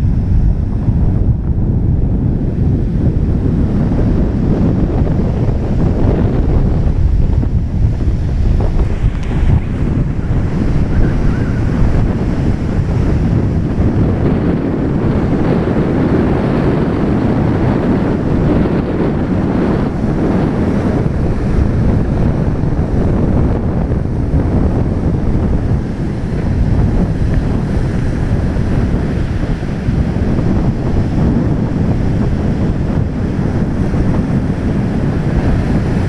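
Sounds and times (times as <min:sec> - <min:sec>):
sea waves breaking: 0:00.0 - 0:36.0
wind buffeting microphone: 0:00.0 - 0:36.0.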